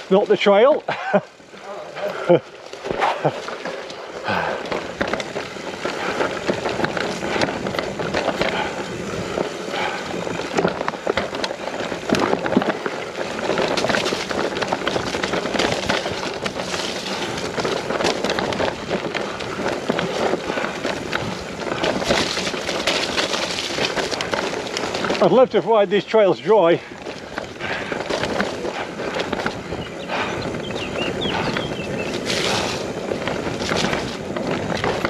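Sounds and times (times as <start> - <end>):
bike rattling: 0.0 - 35.0
mountain bike tyre noise: 0.0 - 35.0.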